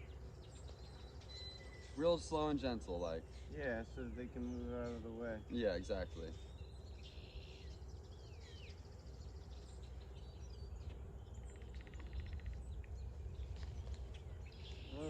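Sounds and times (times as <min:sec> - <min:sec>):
faint steady hum: 0:00.0 - 0:15.0
low rumble of wind: 0:00.0 - 0:15.0
songbirds chirping and trilling: 0:00.0 - 0:15.0.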